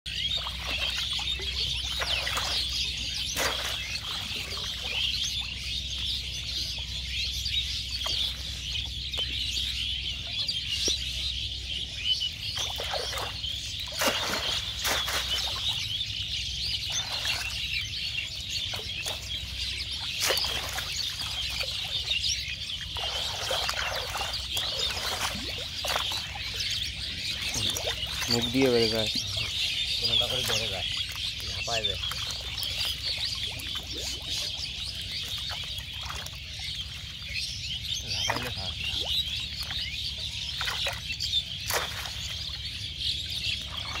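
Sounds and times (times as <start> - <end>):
water splashes: 0.1 - 9.9, 12.4 - 44.0
small birds chirping: 0.1 - 44.0.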